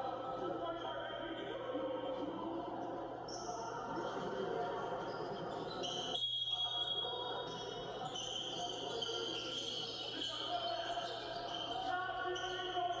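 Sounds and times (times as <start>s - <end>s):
basketball game broadcast: 0.0s - 13.0s.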